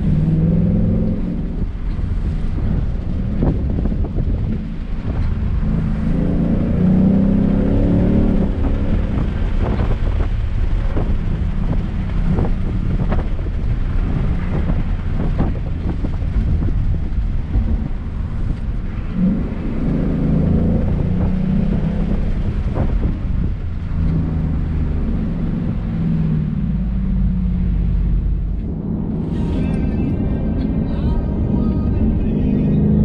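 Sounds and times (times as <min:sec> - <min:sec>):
car engine running: 0:00.0 - 0:33.0
road and tyre rumble: 0:00.0 - 0:33.0.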